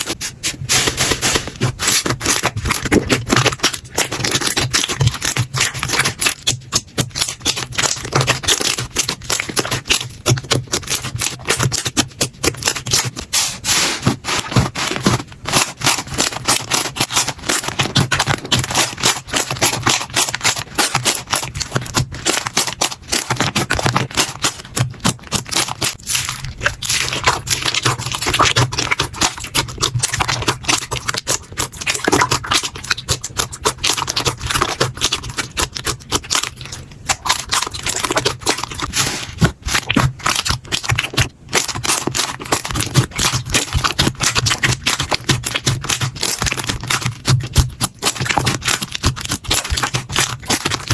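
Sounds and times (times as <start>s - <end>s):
slime squeezed by hand: 0.0s - 50.9s.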